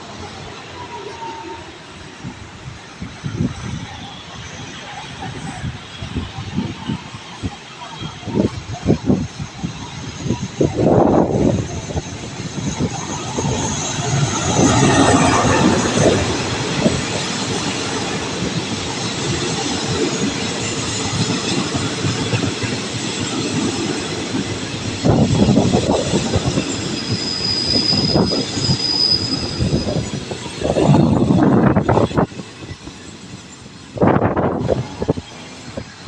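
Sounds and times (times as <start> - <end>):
train wheels on rails: 0.0 - 36.0
high wheel squeal: 3.2 - 34.2.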